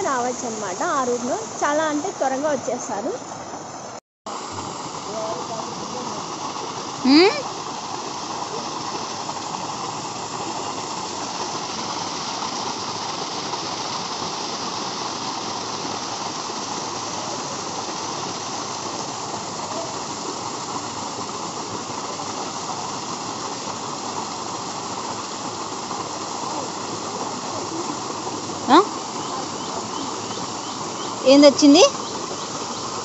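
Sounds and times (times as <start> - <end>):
small waterfall splashing: 0.0 - 33.0.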